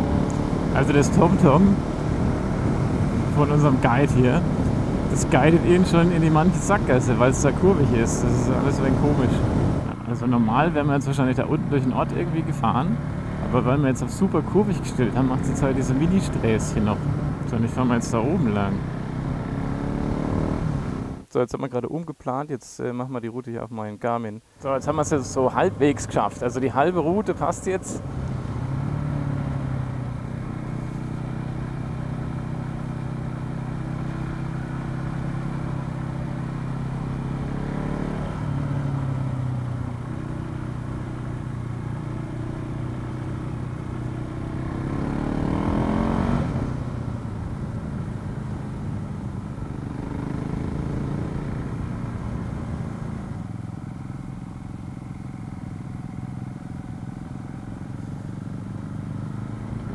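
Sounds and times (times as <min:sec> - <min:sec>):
motorcycle engine revving: 0:00.0 - 0:10.6, 0:11.3 - 0:21.2, 0:25.2 - 0:59.9.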